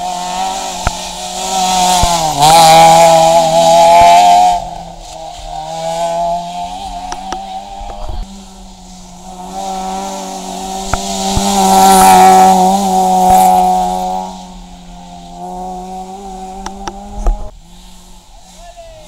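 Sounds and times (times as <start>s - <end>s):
rally car engine at high revs: 0.0s - 18.6s.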